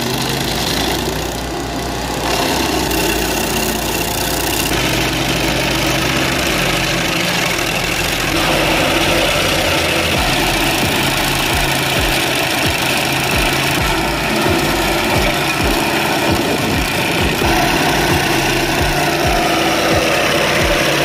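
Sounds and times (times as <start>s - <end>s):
cutter wheel grinding stump: 0.0s - 21.0s
gasoline engine running: 0.0s - 21.0s.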